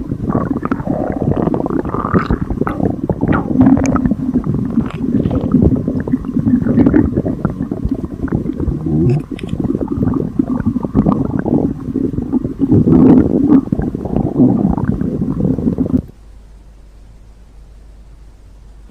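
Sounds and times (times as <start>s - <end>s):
stomach gurgling and rumbling: 0.0s - 16.2s.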